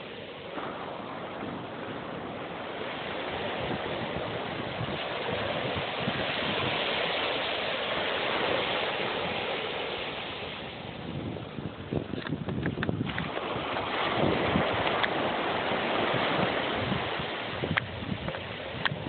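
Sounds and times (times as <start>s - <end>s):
waves washing onto sand: 0.0s - 19.0s.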